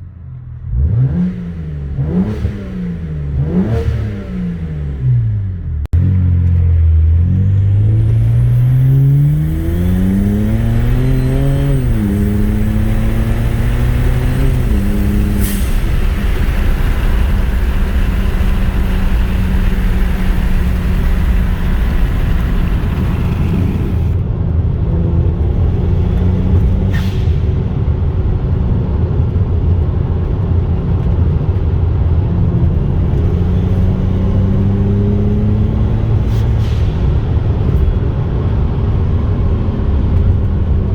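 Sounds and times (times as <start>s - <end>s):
car engine accelerating hard: 0.6s - 24.2s, 27.6s - 40.9s.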